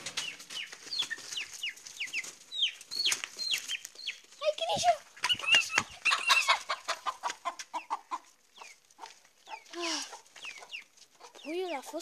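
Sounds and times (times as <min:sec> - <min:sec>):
chickens squawking and clucking: 0:00.0 - 0:12.0.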